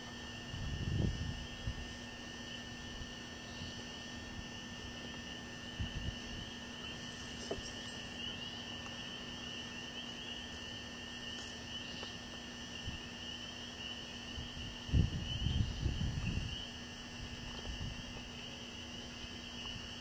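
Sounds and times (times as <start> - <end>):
crickets trilling: 0.0 - 20.0
faint low hum: 0.0 - 20.0.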